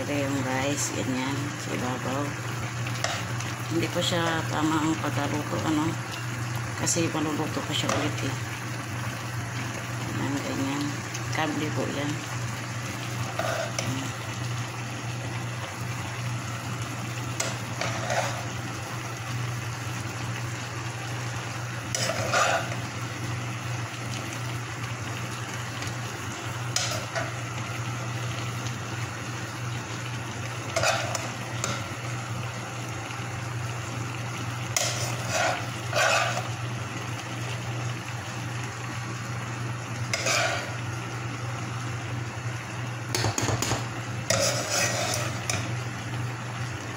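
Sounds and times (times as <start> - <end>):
rice sizzling in a pan: 0.0 - 46.9.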